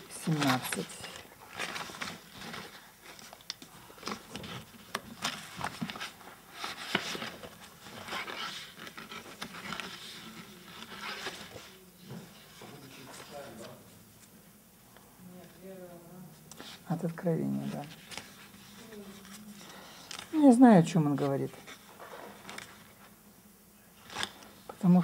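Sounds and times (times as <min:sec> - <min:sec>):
book pages rustling: 0:00.0 - 0:14.4, 0:16.4 - 0:23.1, 0:24.0 - 0:25.0.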